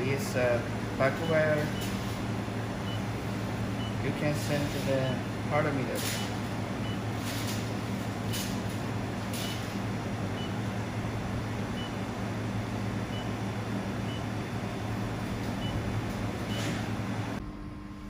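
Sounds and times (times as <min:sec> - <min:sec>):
welding machine humming: 0:00.0 - 0:18.0.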